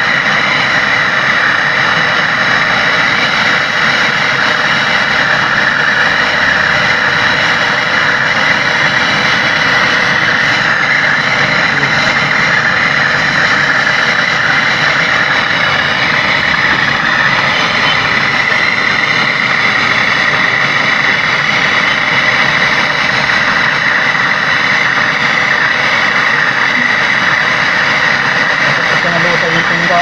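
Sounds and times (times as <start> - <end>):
torch flame hissing: 0.0 - 30.0.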